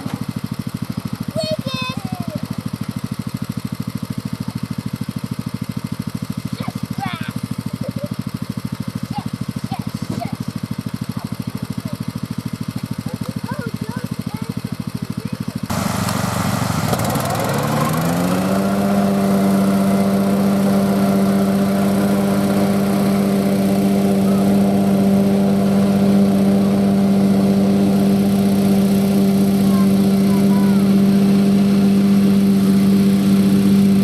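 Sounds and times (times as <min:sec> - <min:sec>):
tractor engine revving: 0:00.0 - 0:34.0.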